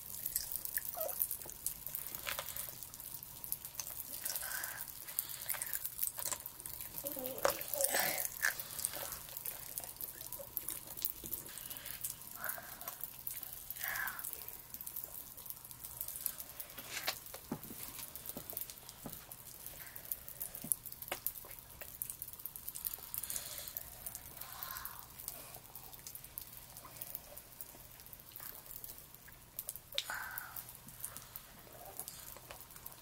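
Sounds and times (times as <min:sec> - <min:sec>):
popping candy crackling: 0:00.0 - 0:33.0.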